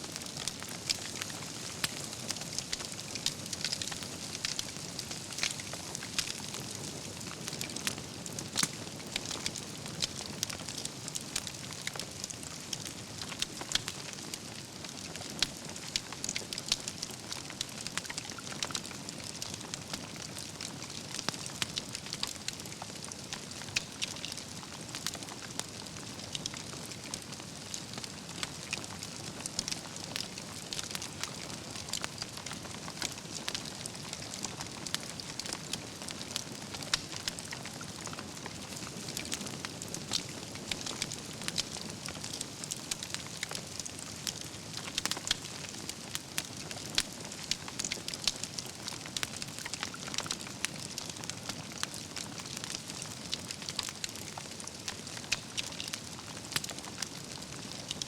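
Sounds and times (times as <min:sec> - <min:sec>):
campfire burning: 0:00.0 - 0:58.0
crackles and pops from logs: 0:00.0 - 0:58.0.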